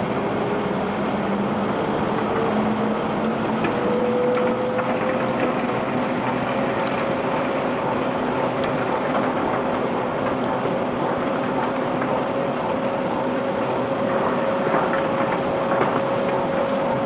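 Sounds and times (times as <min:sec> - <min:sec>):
conveyor belt running: 0:00.0 - 0:17.0.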